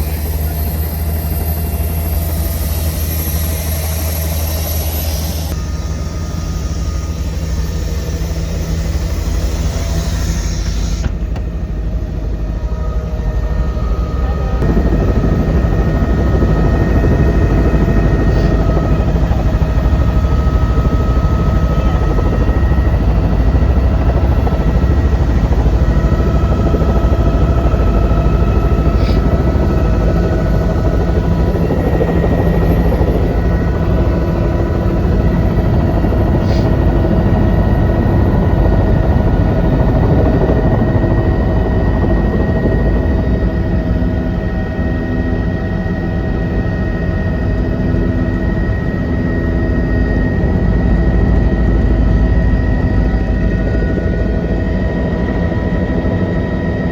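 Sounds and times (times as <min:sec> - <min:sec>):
helicopter engine and rotor: 0:00.0 - 0:56.9.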